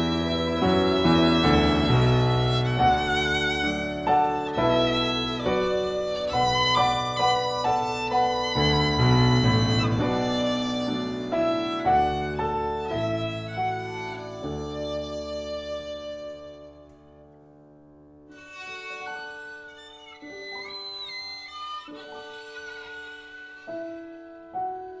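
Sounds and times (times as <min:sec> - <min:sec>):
violin melody with vibrato: 0:00.0 - 0:17.3, 0:18.3 - 0:25.0
grand piano accompaniment: 0:00.0 - 0:25.0.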